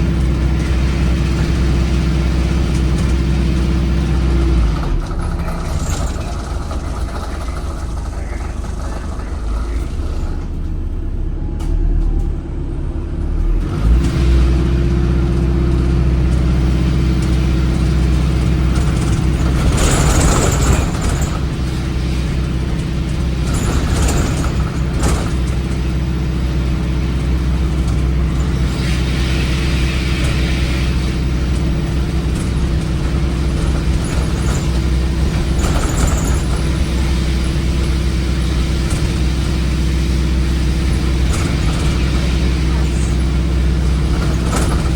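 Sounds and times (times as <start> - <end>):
bus diesel engine drone: 0.0 - 44.9.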